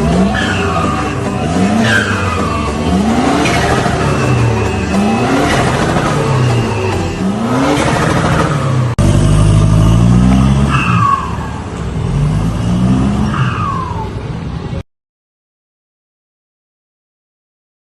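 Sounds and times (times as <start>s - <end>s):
diesel engine revving: 0.0s - 14.8s.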